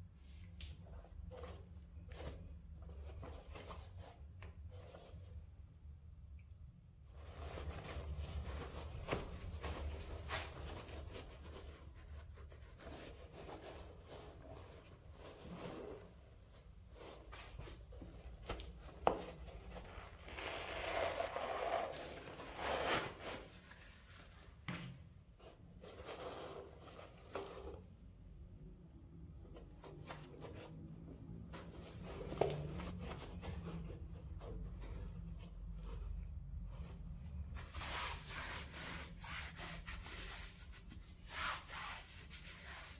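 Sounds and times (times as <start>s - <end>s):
faint rustling and handling: 0.0s - 6.1s, 7.0s - 42.9s.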